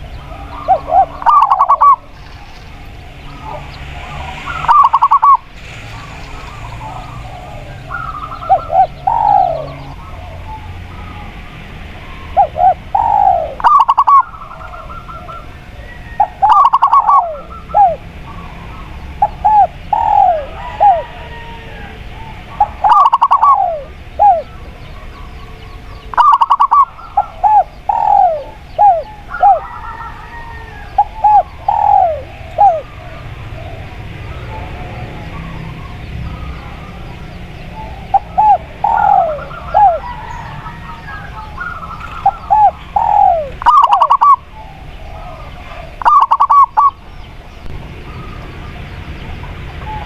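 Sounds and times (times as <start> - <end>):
doves cooing: 0.0 - 50.0
rapid pulsed bird notes: 0.0 - 50.0
steady ambient hiss: 0.0 - 50.0.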